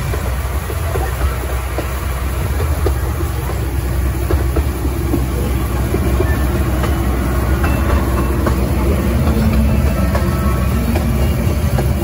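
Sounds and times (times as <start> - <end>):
small train rumbling: 0.0 - 12.0
wheels clicking on rails: 0.0 - 12.0.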